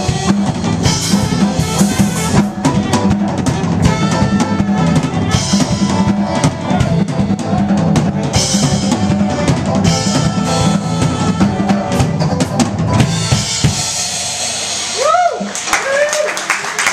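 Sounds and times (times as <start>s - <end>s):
saxophone: 0.0s - 15.4s
electric guitar: 0.0s - 16.0s
electric bass: 0.0s - 16.1s
drum kit: 0.0s - 16.3s.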